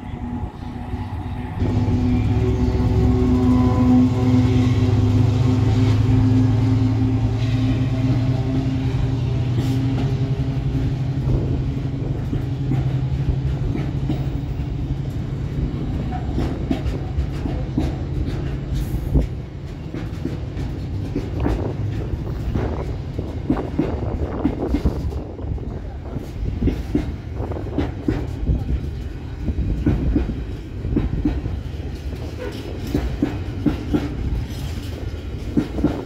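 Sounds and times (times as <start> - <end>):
diesel locomotive engine drone: 0.0 - 36.0
wagons clacking over rail joints: 0.1 - 36.0.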